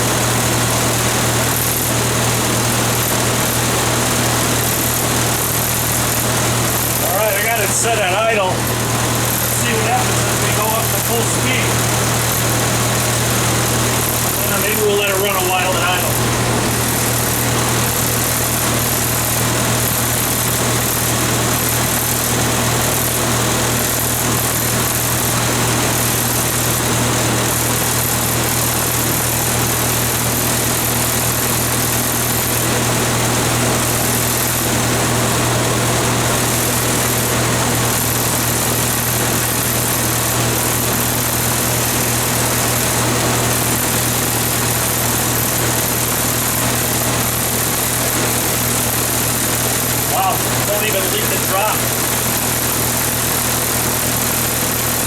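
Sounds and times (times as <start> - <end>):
generator engine idling: 0.0 - 55.0.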